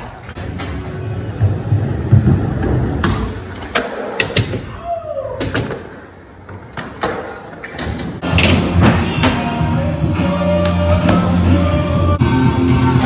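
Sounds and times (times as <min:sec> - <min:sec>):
skateboard wheels rolling: 0:00.0 - 0:13.0.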